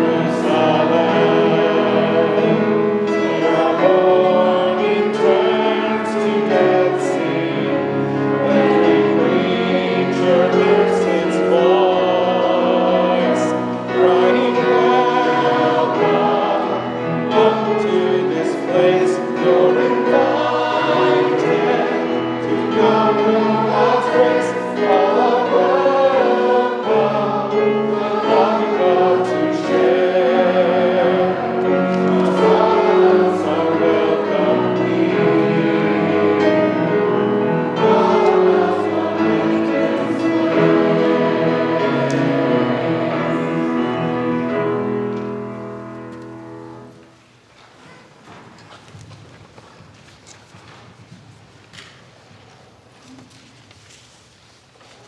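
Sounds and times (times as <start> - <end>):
group singing a hymn: 0.0 - 47.0.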